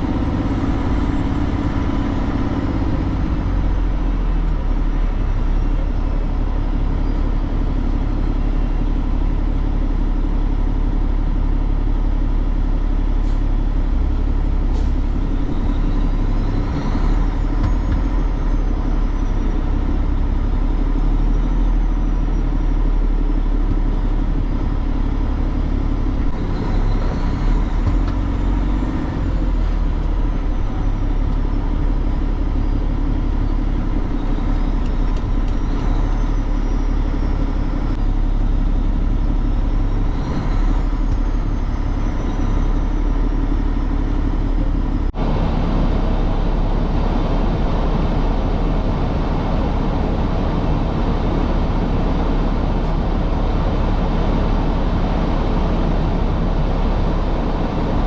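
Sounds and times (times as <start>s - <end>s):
road noise: 0.0s - 58.0s
truck diesel engine running: 0.0s - 58.0s.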